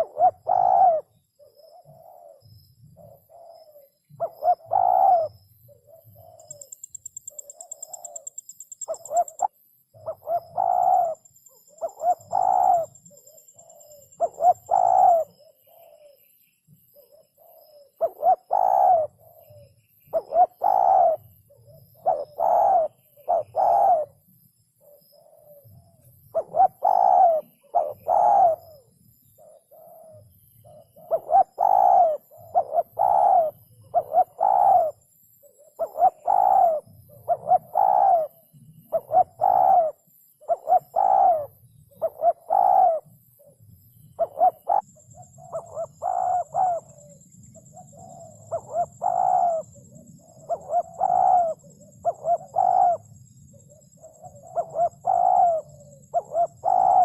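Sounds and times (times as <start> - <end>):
dove cooing: 0.0 - 16.3, 16.9 - 24.2, 24.8 - 57.0.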